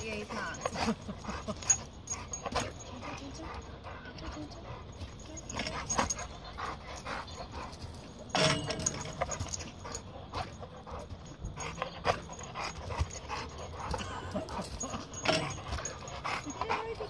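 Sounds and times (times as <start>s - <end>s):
dog panting and whining: 0.0s - 17.0s.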